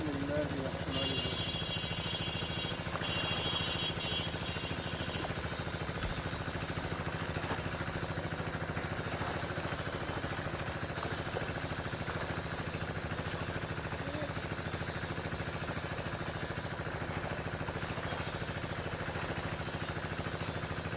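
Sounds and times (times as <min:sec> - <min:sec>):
small engine idling: 0:00.0 - 0:20.9.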